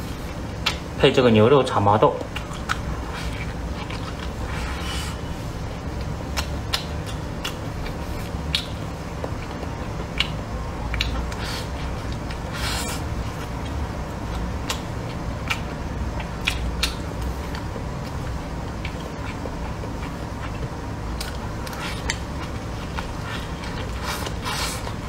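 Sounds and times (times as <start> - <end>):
chewing with wet mouth clicks: 0.3 - 0.9, 2.1 - 5.0, 5.9 - 25.0.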